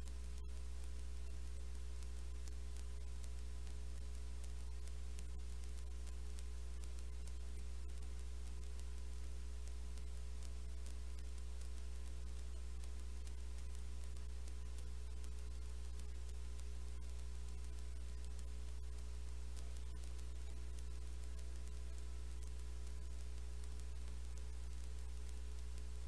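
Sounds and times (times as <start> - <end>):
electrical hum: 0.0 - 26.0
faint hiss: 0.0 - 26.0.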